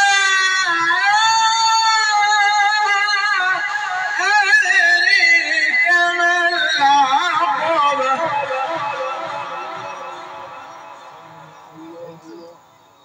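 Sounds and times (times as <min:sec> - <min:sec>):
man chanting over loudspeaker: 0:00.0 - 0:12.6.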